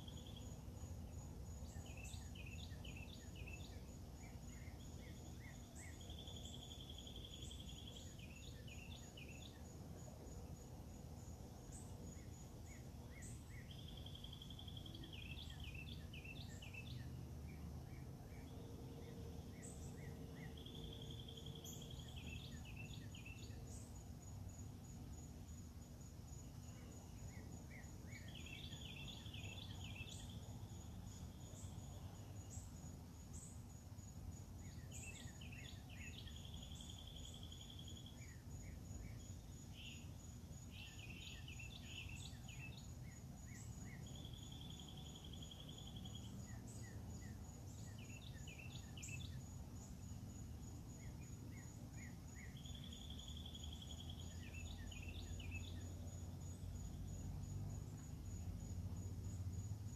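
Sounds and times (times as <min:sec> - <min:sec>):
insects trilling: 0:00.0 - 0:59.9
songbird chirping and trilling: 0:00.0 - 0:59.9.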